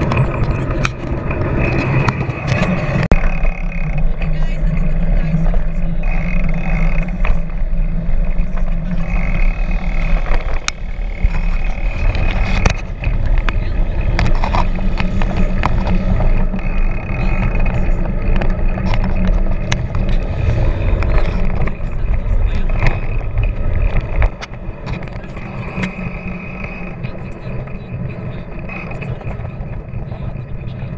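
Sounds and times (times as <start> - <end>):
bicycle rolling on asphalt: 0.0 - 30.9
wind on microphone: 0.0 - 30.9.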